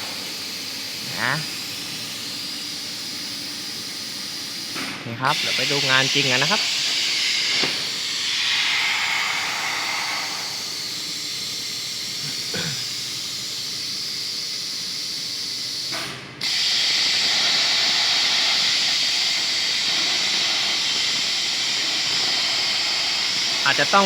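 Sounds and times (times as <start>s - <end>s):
plasma torch hissing: 0.0s - 24.0s.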